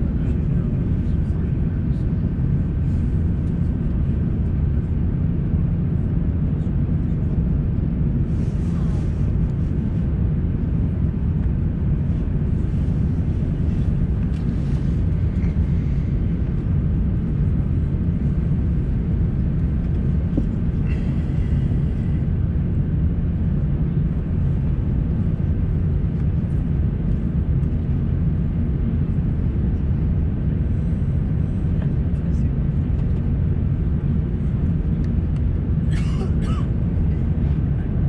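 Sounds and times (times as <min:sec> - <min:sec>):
airplane cabin rumble: 0:00.0 - 0:38.0.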